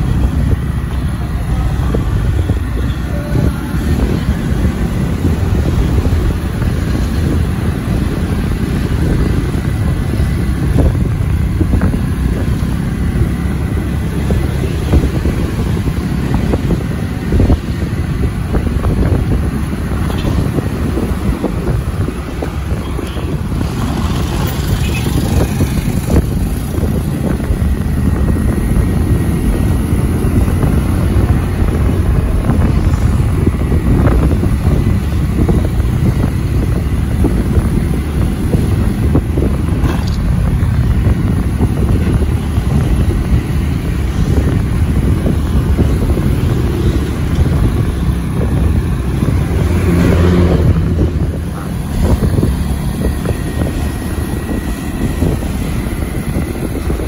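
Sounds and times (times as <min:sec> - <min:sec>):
motorcycle engines and road rumble: 0:00.0 - 0:57.0
wind buffeting microphone: 0:00.0 - 0:57.0.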